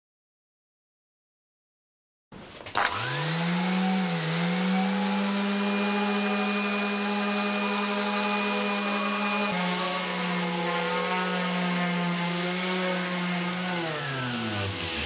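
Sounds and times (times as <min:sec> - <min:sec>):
electric orbital sander sanding wood: 0:02.8 - 0:15.0.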